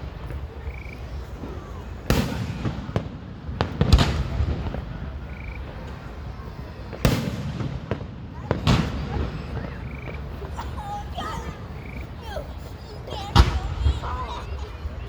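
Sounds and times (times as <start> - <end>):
fireworks booming: 0.0 - 15.0
small fireworks pops: 0.0 - 15.0.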